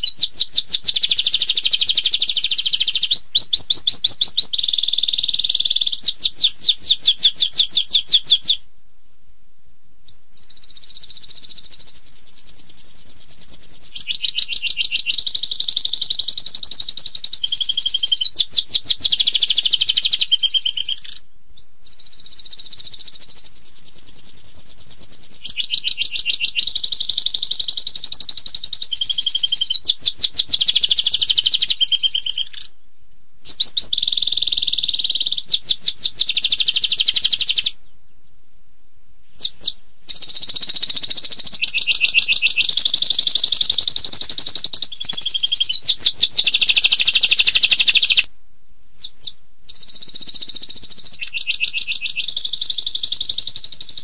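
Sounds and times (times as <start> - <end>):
canary singing fast trills: 0.0 - 8.7, 10.1 - 38.4, 39.3 - 48.3, 49.0 - 54.0.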